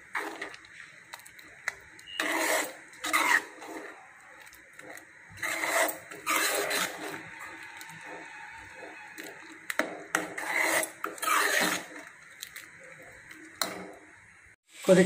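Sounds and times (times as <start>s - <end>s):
ladle stirring thick mixture in pan: 0.0s - 14.1s.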